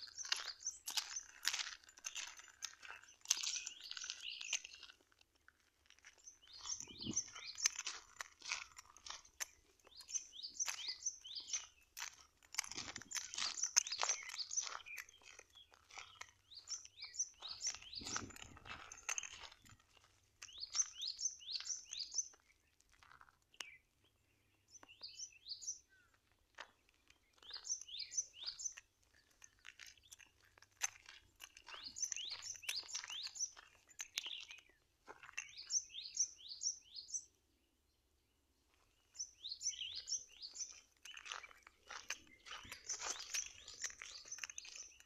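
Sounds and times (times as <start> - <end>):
birds chirping: 0.0 - 5.0, 6.0 - 22.8, 23.5 - 45.0
footsteps crunching on gravel: 0.0 - 37.2, 38.7 - 45.0.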